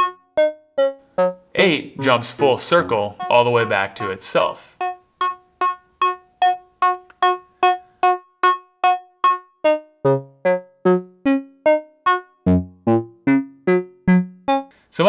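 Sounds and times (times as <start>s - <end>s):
synthesizer plucked notes: 0.0s - 14.7s.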